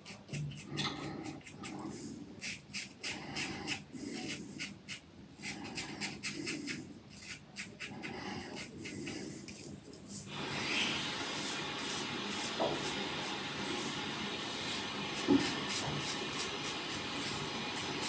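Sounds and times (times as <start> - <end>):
steady hiss: 1.4 - 18.0.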